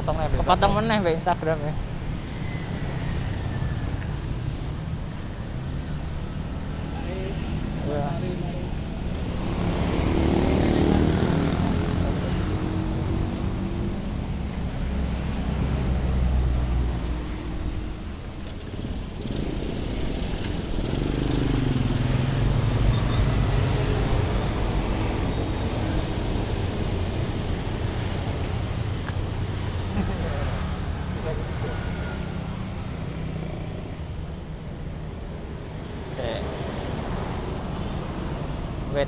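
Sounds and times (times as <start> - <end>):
car engines passing: 0.0 - 39.0
motorbike passing: 0.0 - 39.0
steady traffic hum: 0.0 - 39.0.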